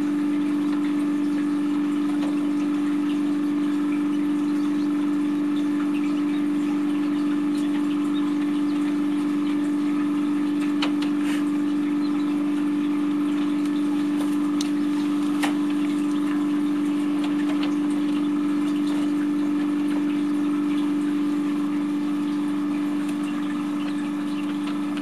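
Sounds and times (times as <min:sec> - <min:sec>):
fan humming: 0:00.0 - 0:25.0.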